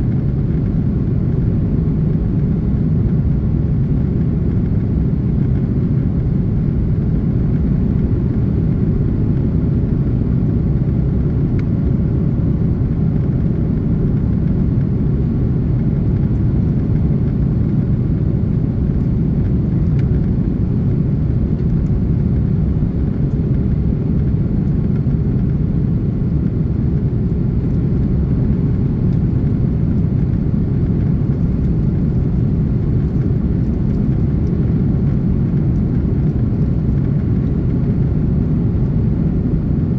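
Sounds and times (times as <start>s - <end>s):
airliner cabin engine and airflow noise: 0.0s - 39.9s.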